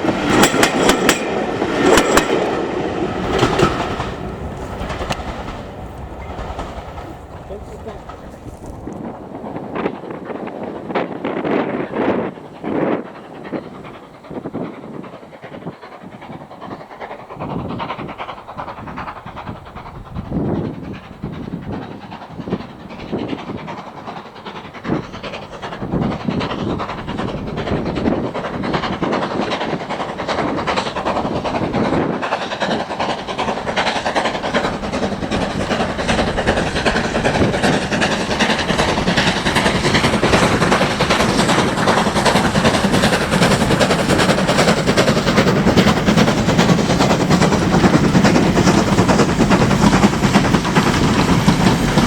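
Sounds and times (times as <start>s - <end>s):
steam engine chuffing: 0.0s - 52.0s.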